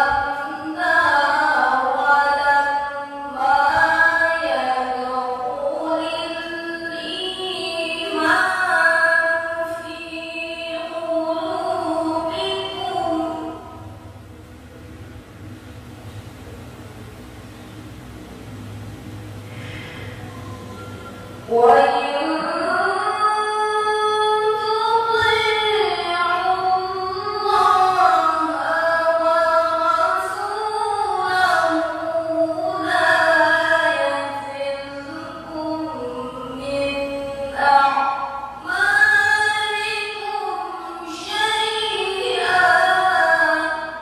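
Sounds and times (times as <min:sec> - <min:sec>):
woman reciting melodiously: 0:00.0 - 0:14.3, 0:19.3 - 0:44.0.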